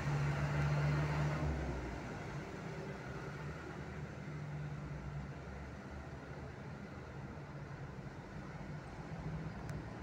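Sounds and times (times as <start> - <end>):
road traffic hum: 0.0 - 10.0.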